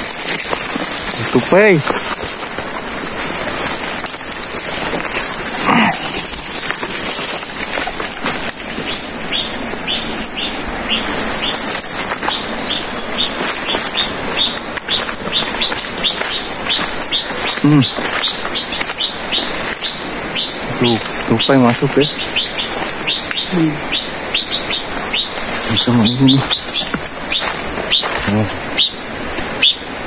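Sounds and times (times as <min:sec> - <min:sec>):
forest ambience: 0:00.0 - 0:30.0
high insect drone: 0:00.0 - 0:30.0.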